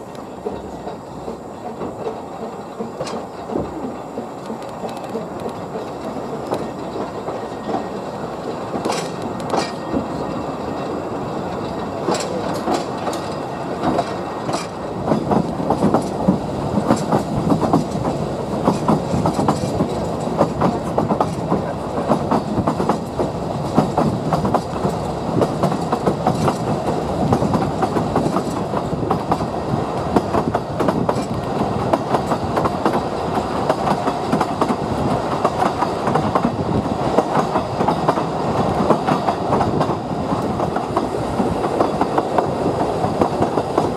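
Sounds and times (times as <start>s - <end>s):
train rumbling and rattling: 0.0s - 43.9s
wheels clicking over rail joints: 0.0s - 43.9s.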